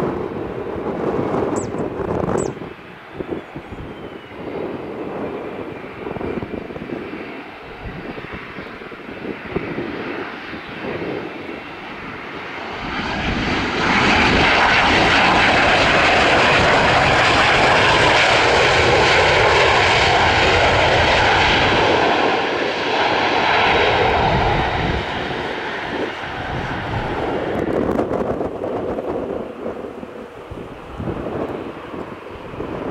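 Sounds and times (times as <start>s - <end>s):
jet landing with engine whine: 0.0s - 32.9s.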